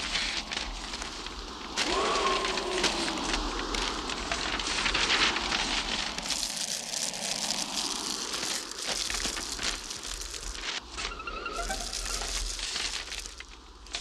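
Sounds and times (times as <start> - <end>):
paper rustling and crumpling: 0.0 - 14.0.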